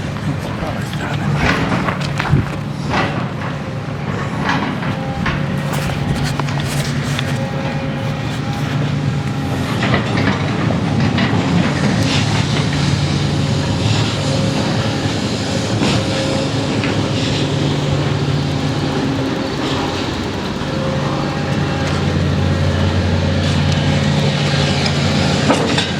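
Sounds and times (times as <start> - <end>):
heavy diesel machinery running: 0.0 - 25.9.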